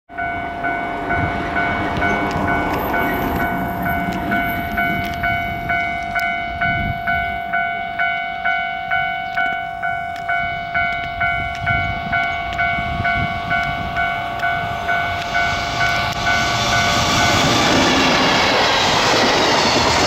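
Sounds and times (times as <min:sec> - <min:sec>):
freight train rumbling: 0:00.1 - 0:20.0
railway warning bell dinging: 0:00.1 - 0:20.0
steady tone: 0:00.1 - 0:20.0.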